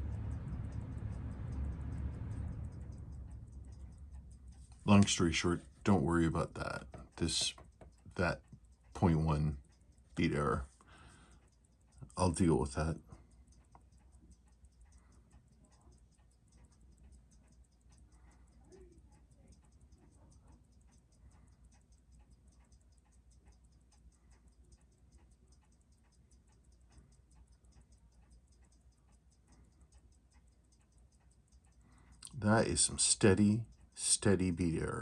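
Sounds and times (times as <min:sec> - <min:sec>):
watch ticking: 0:00.0 - 0:35.0.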